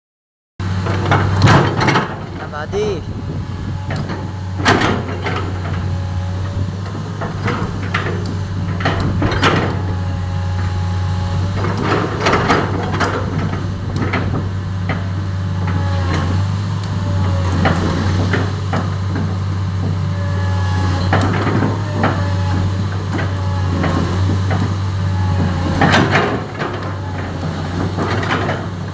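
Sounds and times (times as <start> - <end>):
mini excavator diesel engine running: 0.6 - 28.9
clanks and knocks: 0.8 - 10.7, 11.3 - 28.9.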